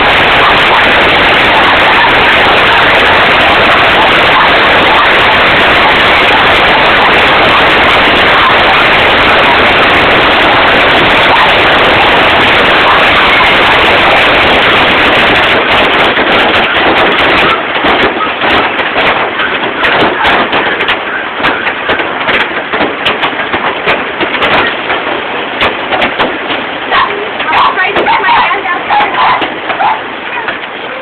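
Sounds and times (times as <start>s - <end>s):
hail pelting down: 0.0s - 31.0s.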